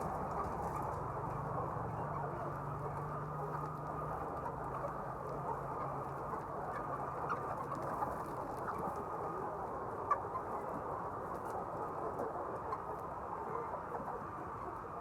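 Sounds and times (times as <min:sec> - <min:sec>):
chickens clucking and cheeping: 0:00.0 - 0:15.0.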